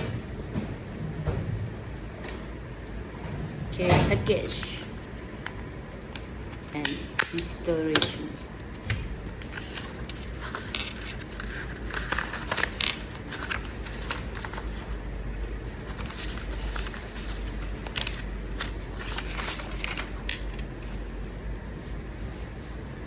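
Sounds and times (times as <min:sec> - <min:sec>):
paper rustling: 0:04.3 - 0:23.0.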